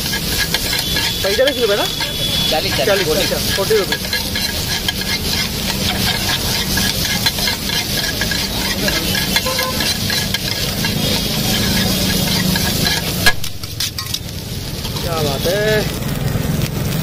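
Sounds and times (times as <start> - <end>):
metal spatulas clattering on griddle: 0.0 - 15.4
frying sizzle: 0.0 - 17.0.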